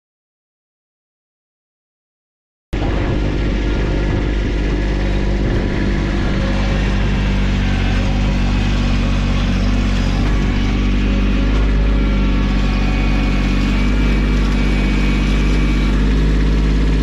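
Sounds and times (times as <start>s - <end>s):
engine running steadily: 2.8s - 17.0s.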